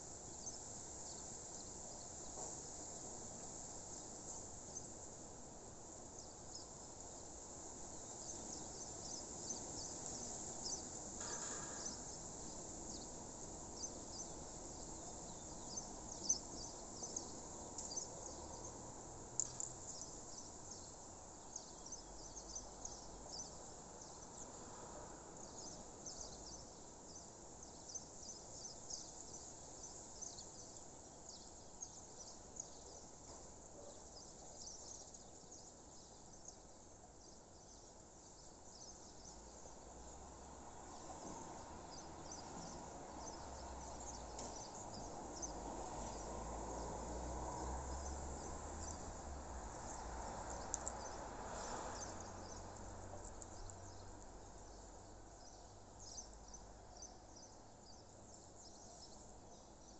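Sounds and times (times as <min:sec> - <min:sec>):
high chirps of insects and birds: 0:00.0 - 0:59.9.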